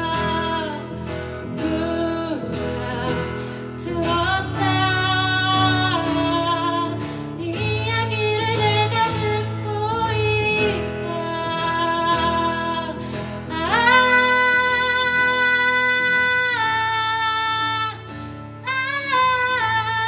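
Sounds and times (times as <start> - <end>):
guitar accompaniment: 0.0 - 20.0
woman singing: 0.0 - 20.0.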